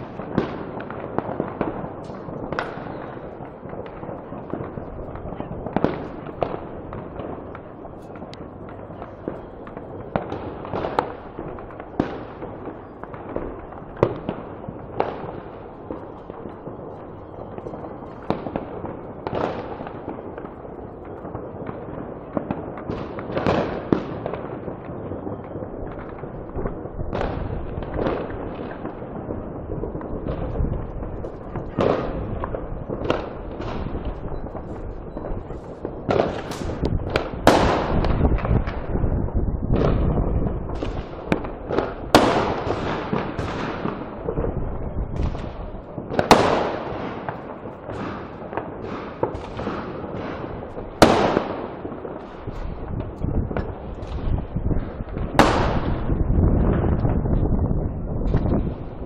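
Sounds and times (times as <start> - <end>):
fireworks bangs and pops: 0.0 - 59.0
rumble of distant explosions: 0.0 - 59.0.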